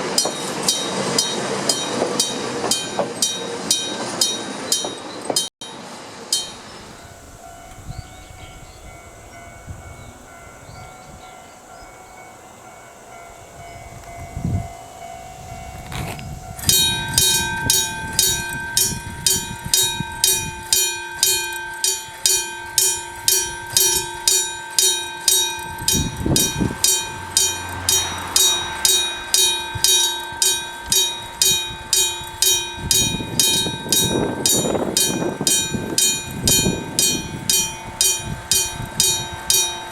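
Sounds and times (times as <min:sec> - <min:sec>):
alarm bell striking metal gong: 0:00.0 - 0:39.9.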